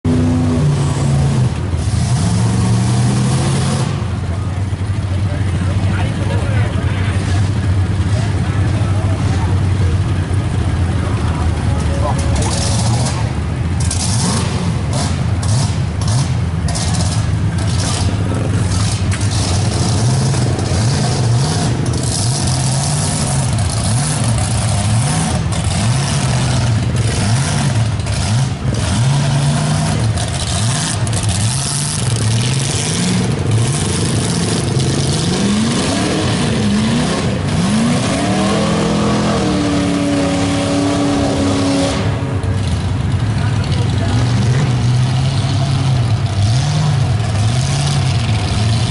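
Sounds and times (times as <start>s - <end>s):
large truck engine revving: 0.0s - 48.9s.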